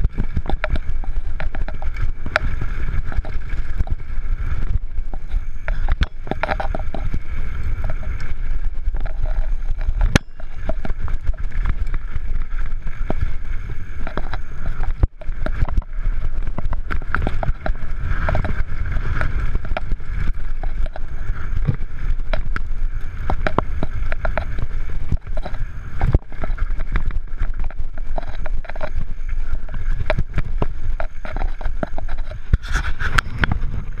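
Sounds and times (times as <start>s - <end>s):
bike frame rattling: 0.0s - 34.0s
tyres on loose stones: 0.0s - 34.0s
wind buffeting microphone: 0.0s - 34.0s.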